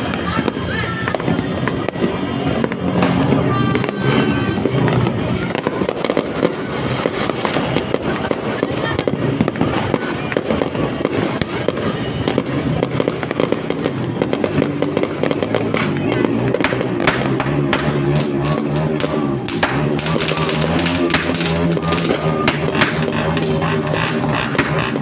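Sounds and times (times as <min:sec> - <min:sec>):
fireworks cracks and bangs: 0:00.0 - 0:25.0.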